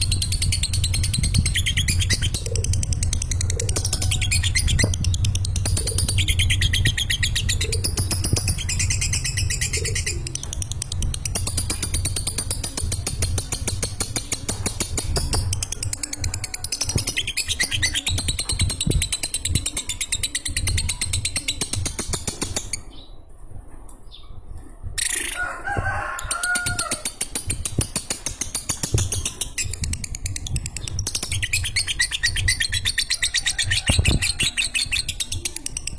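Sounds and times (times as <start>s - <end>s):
bird fast high-pitched chattering: 0.0s - 23.0s, 26.2s - 35.9s.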